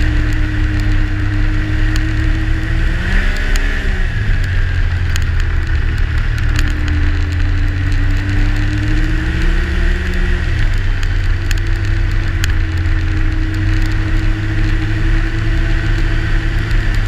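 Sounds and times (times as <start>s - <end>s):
light ticks: 0.0s - 17.0s
snowmobile engine running: 0.0s - 17.0s
track and snow noise: 0.0s - 17.0s.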